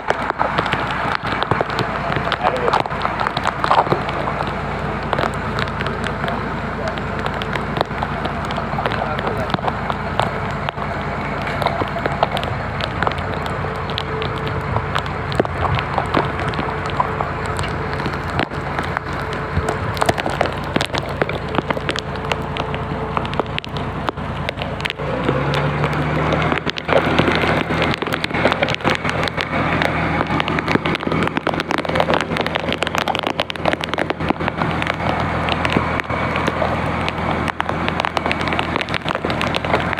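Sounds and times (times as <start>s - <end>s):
dense crackling patter: 0.0s - 39.9s
engine running: 0.0s - 39.9s.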